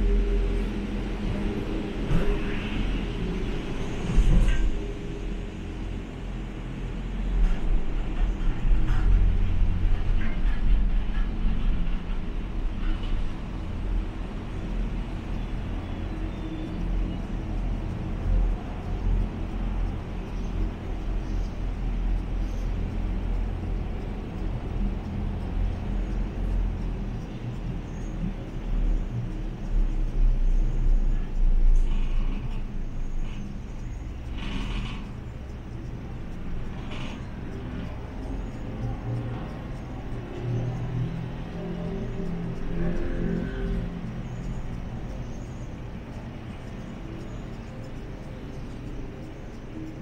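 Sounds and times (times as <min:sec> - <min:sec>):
cable car cabin rumbling: 0:00.0 - 0:50.0.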